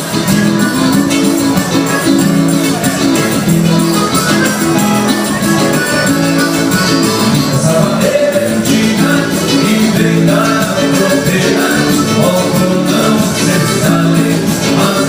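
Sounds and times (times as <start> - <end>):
band playing latin music: 0.0 - 15.0
person singing: 0.0 - 15.0.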